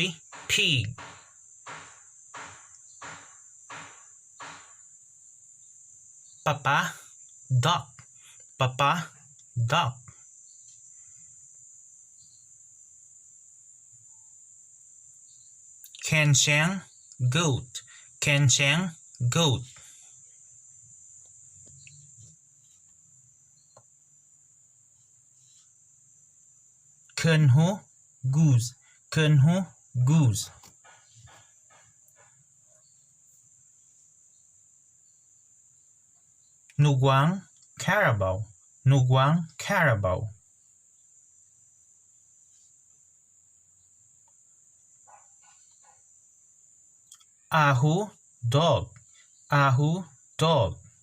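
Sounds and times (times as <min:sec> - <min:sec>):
crickets trilling: 0:00.0 - 0:51.0
high-pitched hiss: 0:00.0 - 0:51.0.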